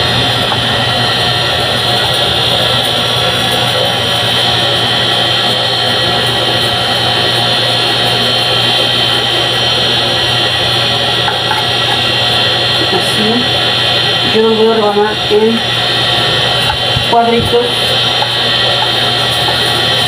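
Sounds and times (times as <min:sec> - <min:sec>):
steady roar with low hum: 0:00.0 - 0:20.0.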